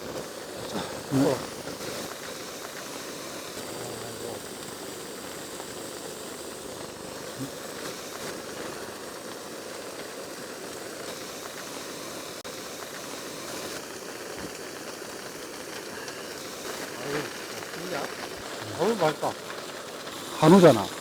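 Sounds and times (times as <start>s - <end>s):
heavy rain on a tent: 0.0s - 21.0s.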